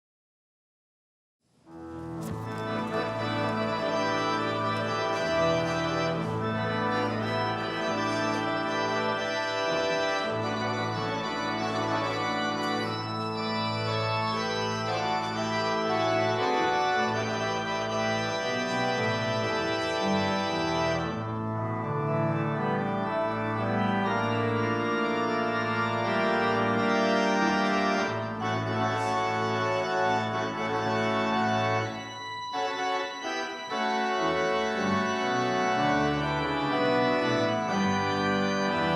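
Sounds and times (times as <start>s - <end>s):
organ playing slow chords: 1.7s - 38.9s.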